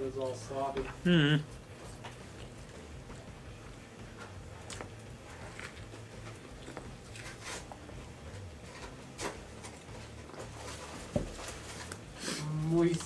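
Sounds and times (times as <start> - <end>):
low steady hum: 0.0 - 13.0
man chewing food: 0.2 - 13.0.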